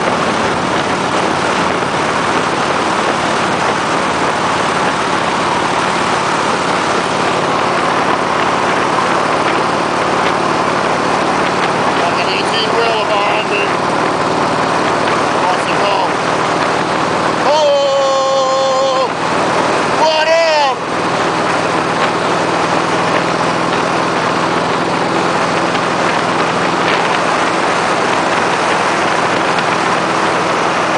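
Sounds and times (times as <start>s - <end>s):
motorcycle engine at speed: 0.0s - 30.9s
wind rushing on microphone: 0.0s - 30.9s.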